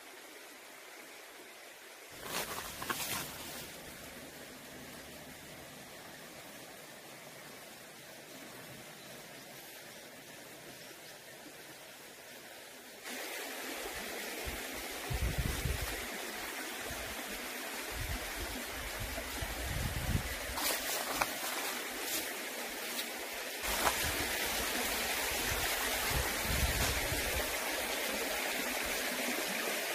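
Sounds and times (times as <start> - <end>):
mountain stream rushing: 0.0 - 29.9.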